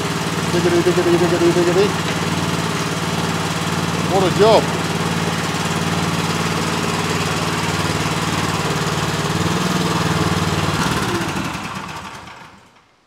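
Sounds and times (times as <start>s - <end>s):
small engine running under load: 0.0s - 13.0s.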